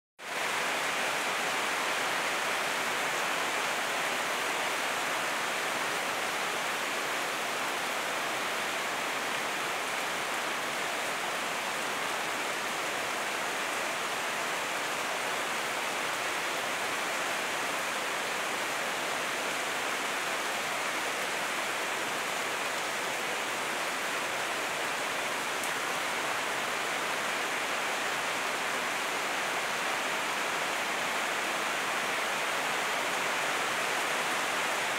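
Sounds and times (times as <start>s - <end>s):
heavy rain falling: 0.2s - 34.9s.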